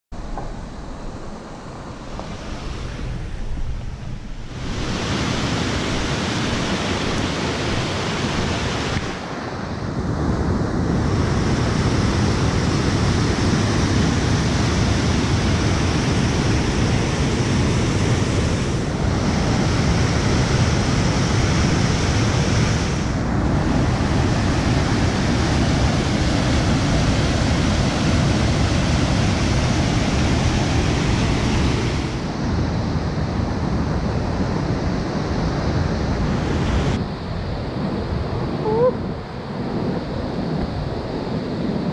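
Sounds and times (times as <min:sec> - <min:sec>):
rushing whitewater: 0:00.2 - 0:39.4.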